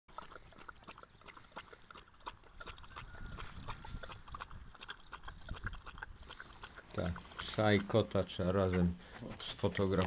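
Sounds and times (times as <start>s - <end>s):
animals lapping milk: 0.1s - 10.0s.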